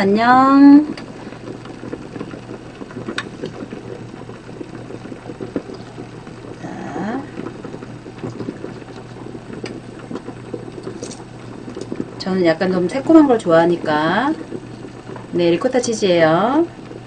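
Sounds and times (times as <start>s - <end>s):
liquid bubbling in a pot: 0.0s - 17.0s.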